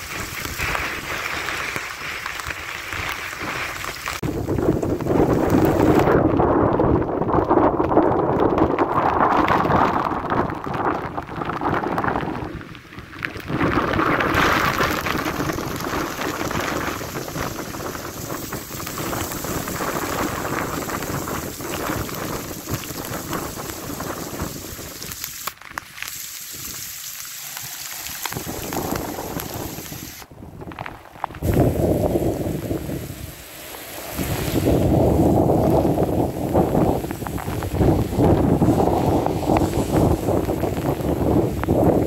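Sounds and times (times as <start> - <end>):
gusting wind: 0.0 - 42.0
torrential rain pouring: 0.0 - 42.0.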